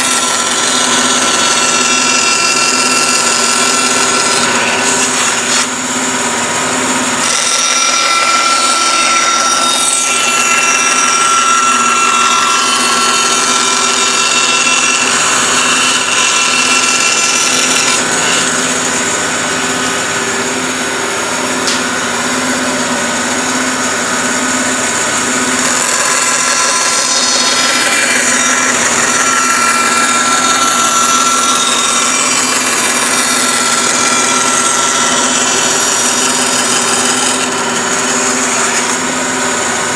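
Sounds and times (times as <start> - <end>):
bandsaw blade cutting wood: 0.0 - 39.9
bandsaw motor hum: 0.0 - 39.9.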